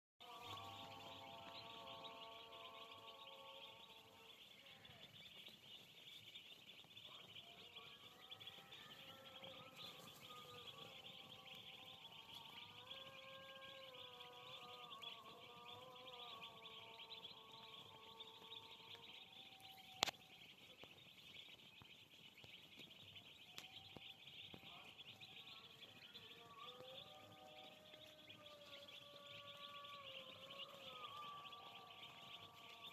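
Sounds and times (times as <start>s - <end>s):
chicks peeping: 0.2s - 32.9s.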